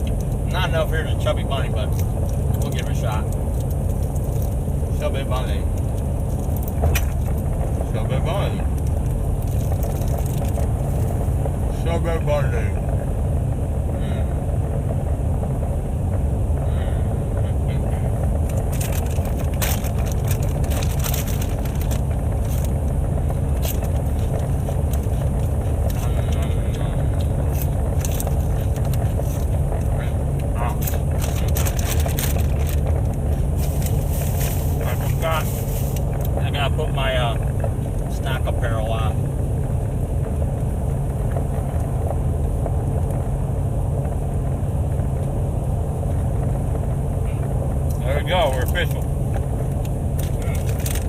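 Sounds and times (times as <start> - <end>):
car cabin rumble: 0.0 - 51.0.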